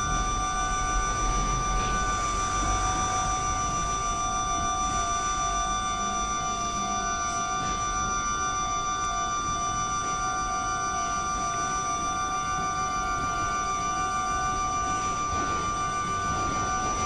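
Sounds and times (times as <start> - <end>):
level crossing warning bells: 0.0 - 17.0.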